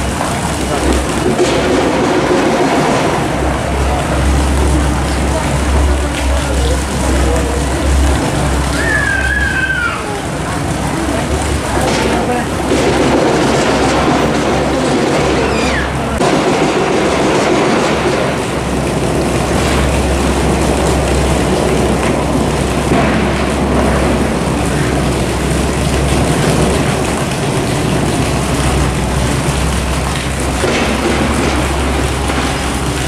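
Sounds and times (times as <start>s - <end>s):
construction machinery noise: 0.0s - 33.0s
low steady drone: 0.0s - 33.0s.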